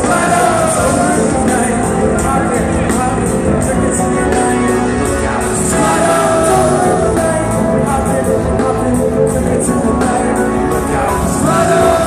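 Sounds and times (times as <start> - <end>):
live rock band playing: 0.0 - 12.0
steady drum beat: 0.0 - 12.0.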